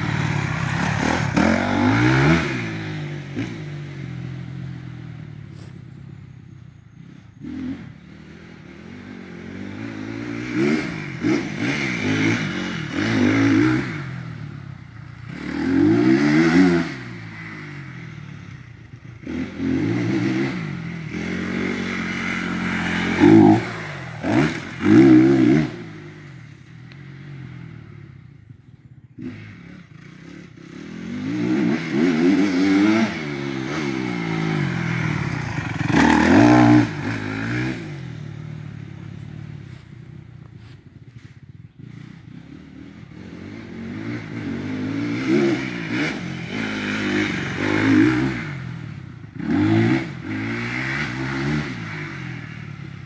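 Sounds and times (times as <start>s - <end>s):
dirt bike engine revving: 0.0s - 4.6s, 7.1s - 26.6s, 29.2s - 39.9s, 40.6s - 53.0s.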